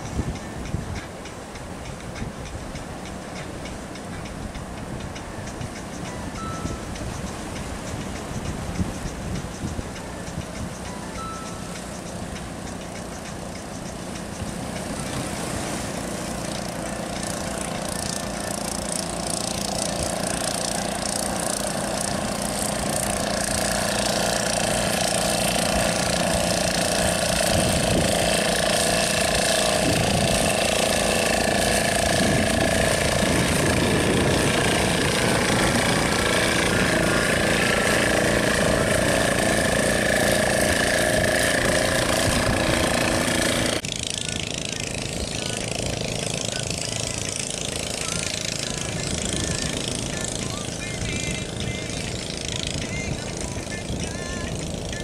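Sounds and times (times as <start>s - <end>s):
breaking surf: 0.0s - 55.0s
outboard motors running: 0.0s - 55.0s.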